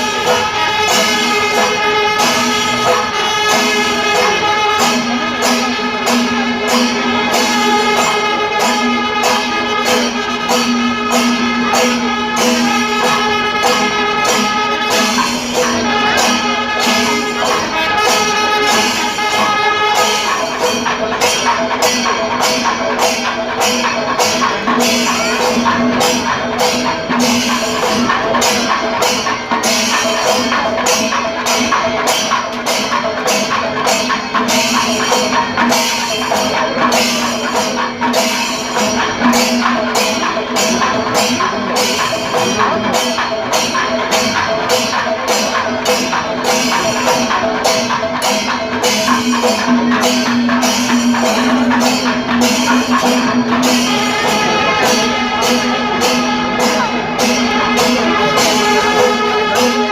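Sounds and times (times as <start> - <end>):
held melody notes: 0.0 - 31.1, 34.2 - 59.9
jingling percussion beat: 0.0 - 59.9.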